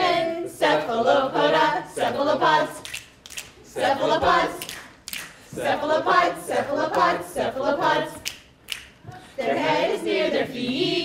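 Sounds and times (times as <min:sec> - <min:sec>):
group singing unaccompanied: 0:00.0 - 0:11.0.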